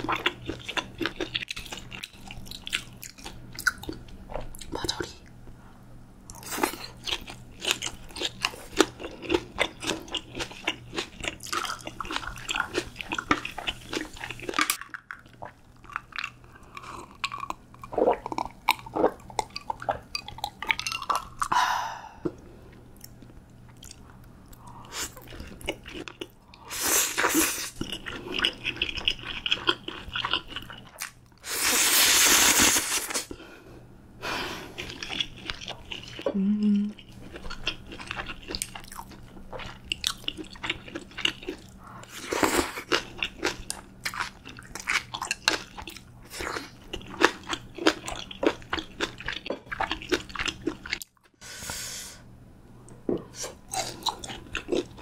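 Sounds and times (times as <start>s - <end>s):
close chewing and crunching: 0.0s - 5.2s, 6.3s - 21.6s, 22.9s - 31.3s, 34.6s - 51.4s, 53.4s - 55.0s.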